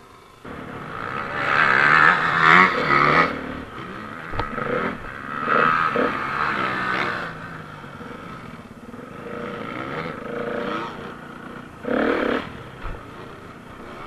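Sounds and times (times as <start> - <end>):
dirt bike engine revving: 0.4 - 14.0.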